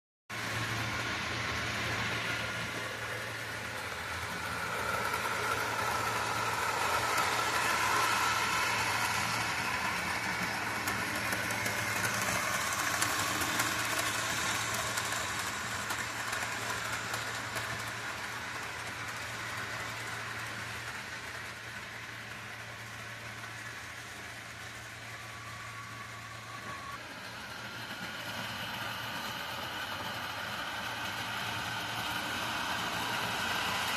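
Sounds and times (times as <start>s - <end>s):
model train whirring on track: 0.3s - 33.9s.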